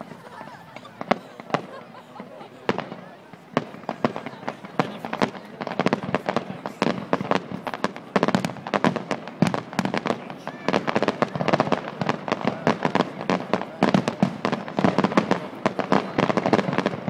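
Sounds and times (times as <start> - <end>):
fireworks cracking and banging: 0.0 - 17.0.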